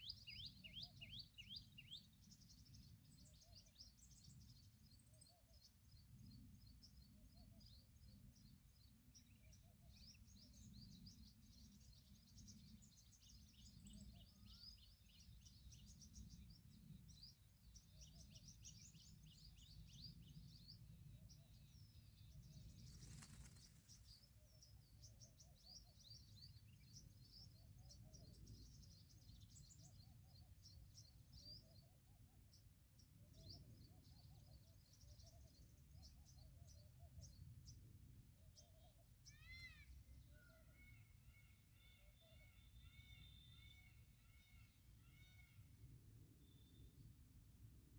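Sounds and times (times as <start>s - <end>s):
small birds chirping: 0.0s - 45.6s.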